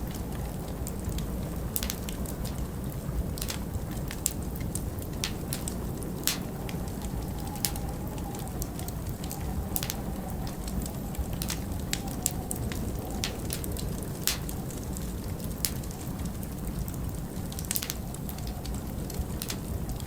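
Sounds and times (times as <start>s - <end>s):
low wind rumble: 0.0s - 20.0s
wood fire crackling and popping: 0.0s - 20.0s.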